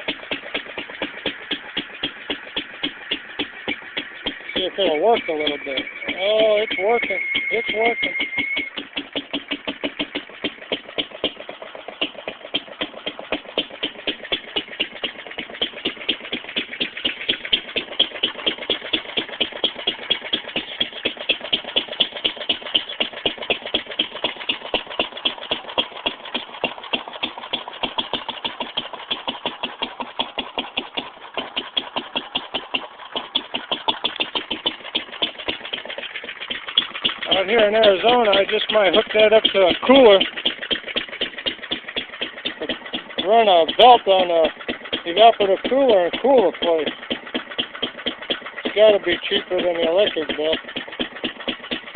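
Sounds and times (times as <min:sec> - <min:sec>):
hit-and-miss engine clattering: 0:00.0 - 0:51.9.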